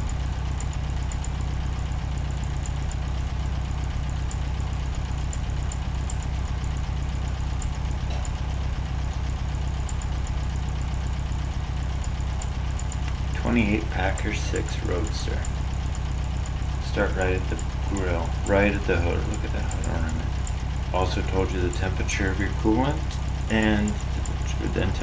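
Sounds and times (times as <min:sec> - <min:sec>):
faint high ticks: 0:00.0 - 0:25.0
low hum: 0:00.0 - 0:25.0.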